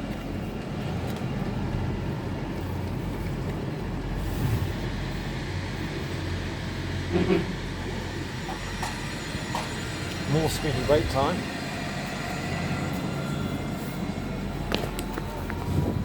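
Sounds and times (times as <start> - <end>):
train engine rumble and hum: 0.0 - 16.0.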